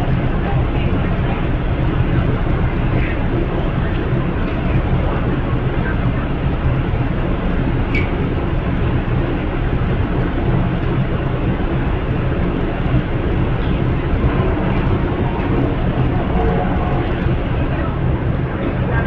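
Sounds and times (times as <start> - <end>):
constant low hum: 0.0 - 19.0
diesel train idling: 0.0 - 19.0.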